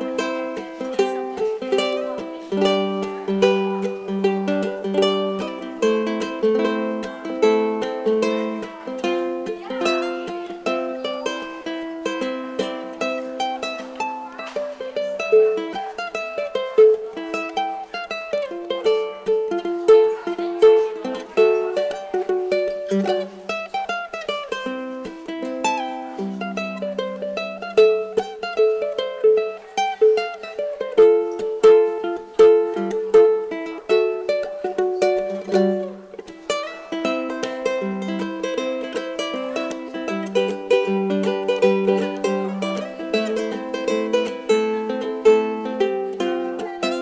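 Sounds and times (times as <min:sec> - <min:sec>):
ukulele melody: 0:00.0 - 0:47.0.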